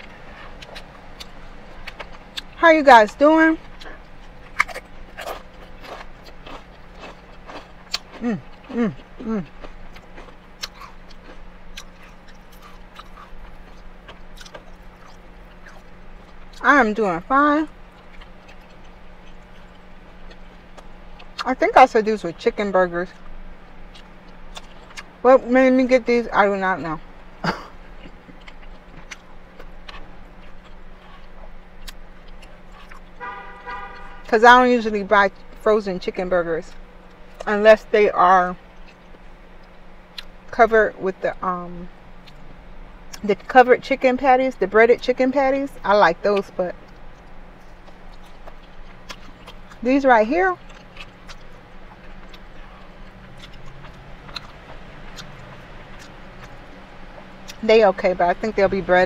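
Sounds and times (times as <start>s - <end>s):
chewing mouth noises: 0.0s - 25.2s, 26.9s - 34.3s, 38.6s - 40.5s, 44.9s - 59.0s
steady low hum: 0.0s - 59.0s.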